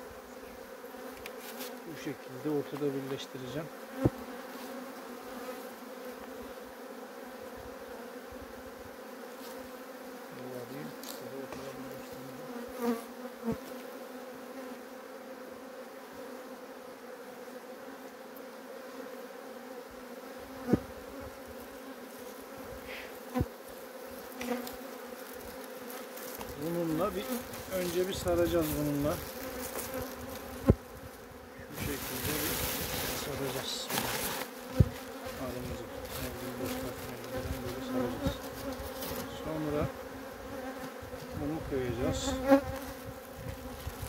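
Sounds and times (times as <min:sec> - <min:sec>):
bees droning: 0:00.0 - 0:44.0.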